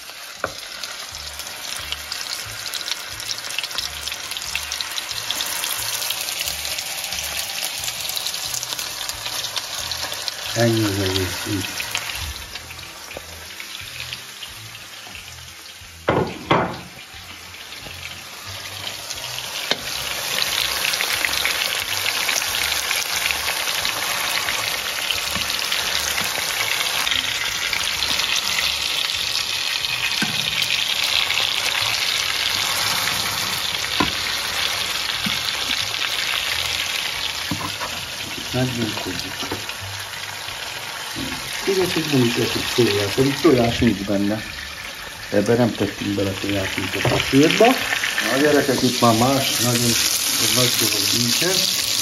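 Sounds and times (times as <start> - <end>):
patties sizzling in a pan: 0.0 - 52.0.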